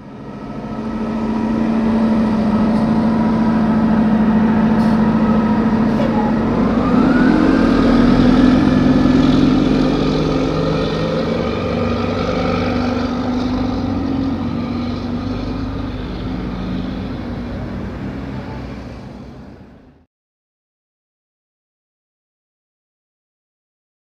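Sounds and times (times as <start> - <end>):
bus engine running: 0.0 - 20.1.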